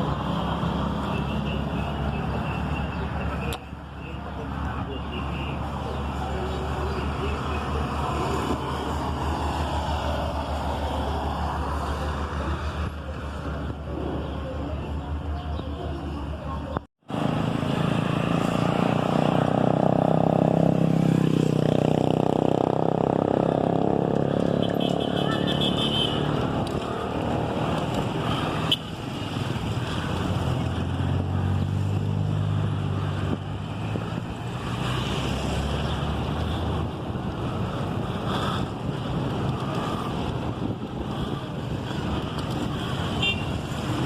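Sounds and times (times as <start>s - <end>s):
road noise: 0.0s - 44.0s
vehicle engines running: 0.0s - 44.0s.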